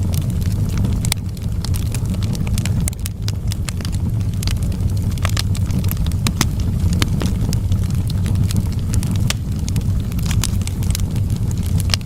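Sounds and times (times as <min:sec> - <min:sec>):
burning wood crackling and popping: 0:00.0 - 0:12.0
campfire flames rumbling: 0:00.0 - 0:12.0.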